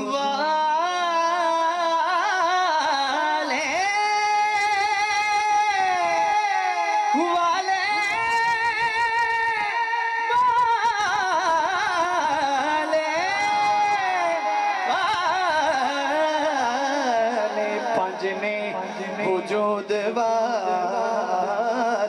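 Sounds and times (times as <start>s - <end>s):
man singing through microphone: 0.0s - 22.0s.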